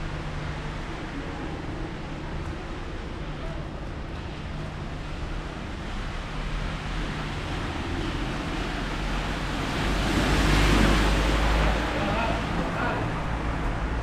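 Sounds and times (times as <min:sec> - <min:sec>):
low engine rumble: 0:00.0 - 0:14.0
steady rain on wet street: 0:00.0 - 0:14.0.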